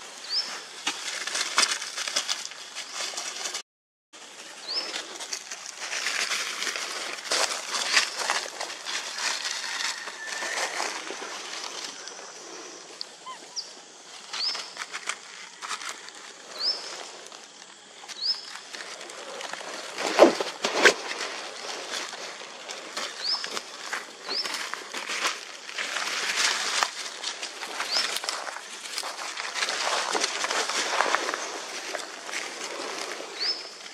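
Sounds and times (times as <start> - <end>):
dry leaves rustling and crackling: 0.0 - 3.6, 4.2 - 33.9
sharp crunches in leaves: 4.2 - 12.3, 14.2 - 33.9.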